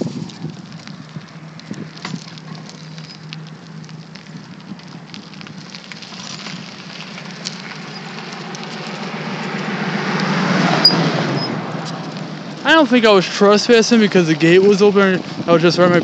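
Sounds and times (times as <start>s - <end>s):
bicycle tyres on asphalt: 0.0s - 16.0s.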